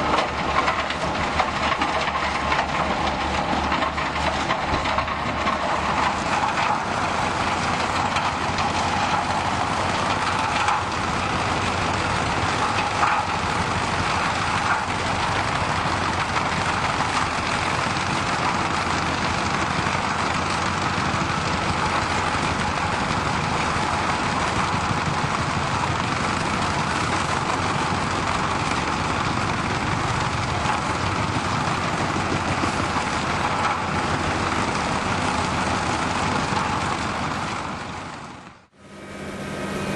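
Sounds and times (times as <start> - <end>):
heavy machinery running: 0.0 - 39.9.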